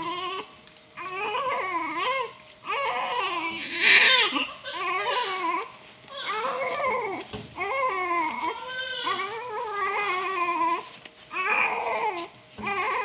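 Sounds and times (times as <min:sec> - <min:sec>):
newborn baby crying: 0:00.0 - 0:13.0.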